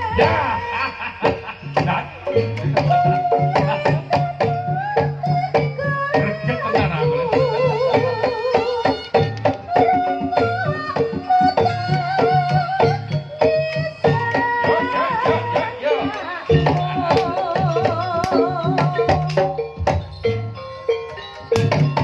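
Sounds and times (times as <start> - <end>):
wavering bending melody: 0.0 - 22.0.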